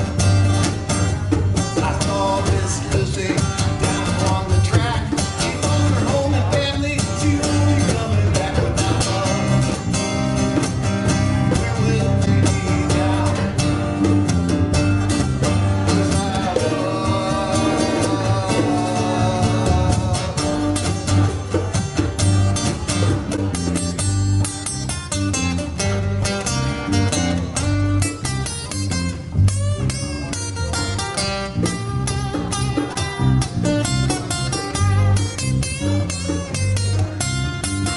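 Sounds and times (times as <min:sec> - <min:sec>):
guitar: 0:00.0 - 0:37.9
live country band: 0:00.0 - 0:37.9
steady bass line: 0:00.0 - 0:37.9.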